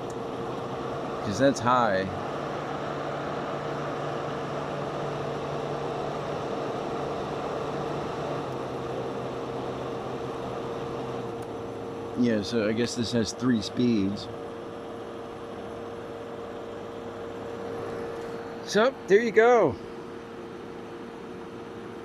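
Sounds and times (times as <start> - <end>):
air conditioner fan rushing: 0.0 - 22.0
compressor low hum: 0.0 - 22.0.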